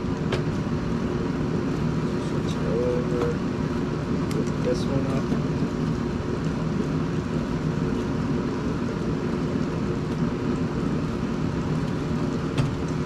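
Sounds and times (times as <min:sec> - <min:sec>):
deep fryer oil bubbling: 0:00.0 - 0:13.0.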